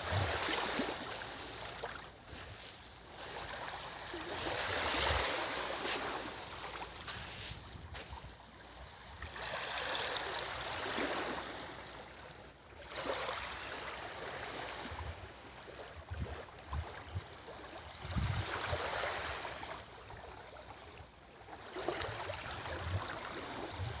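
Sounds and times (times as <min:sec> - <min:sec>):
small waves washing onto shore: 0:00.0 - 0:24.0.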